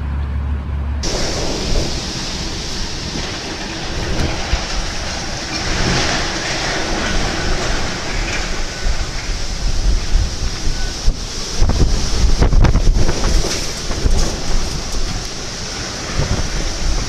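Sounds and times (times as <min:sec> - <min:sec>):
storm wind gusting: 0:01.0 - 0:17.0.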